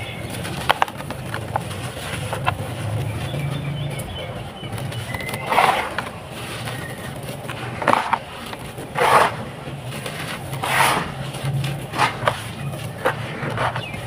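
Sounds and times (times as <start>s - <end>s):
gritty sand crunching by hand: 0.0s - 14.0s
steady low hum: 0.0s - 14.0s.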